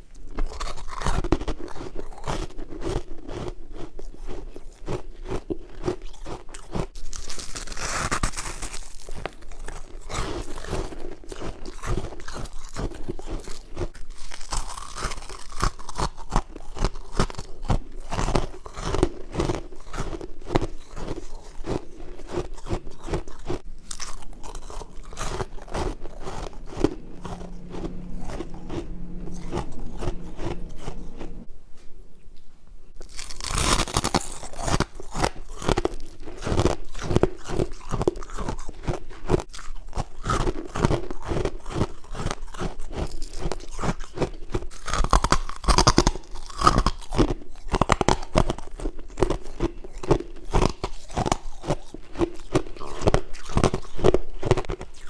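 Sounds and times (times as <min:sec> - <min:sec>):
crunching and chewing frost: 0:00.0 - 0:31.4, 0:33.0 - 0:55.0.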